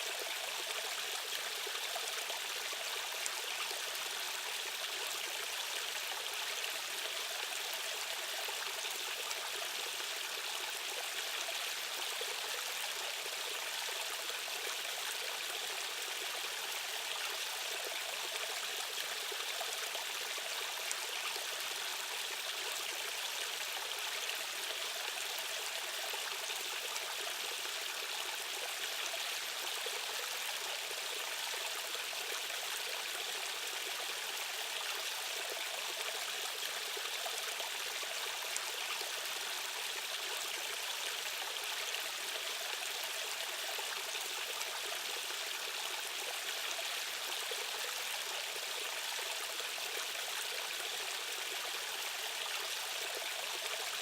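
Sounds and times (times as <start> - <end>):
rushing stream water: 0.0 - 54.0.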